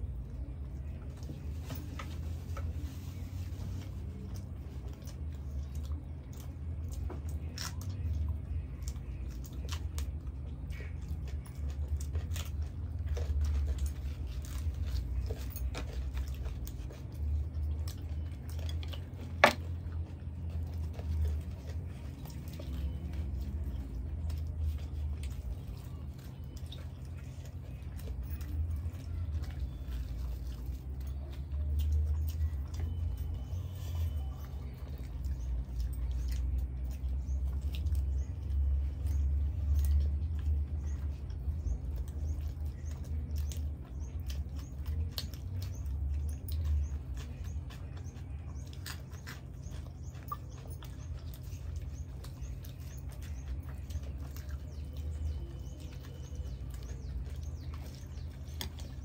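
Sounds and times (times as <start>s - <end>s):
chewing and mouth smacks: 0.0s - 59.0s
low hum: 0.0s - 59.0s.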